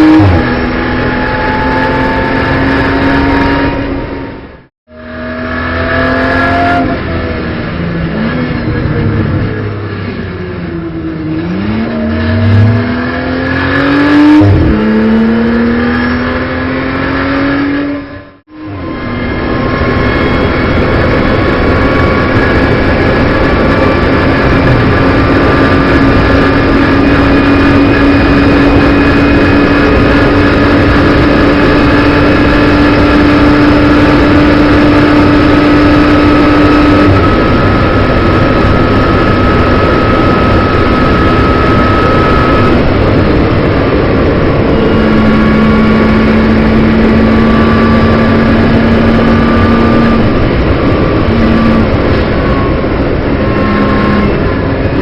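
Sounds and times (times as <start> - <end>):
car engine under power: 0.0 - 55.0.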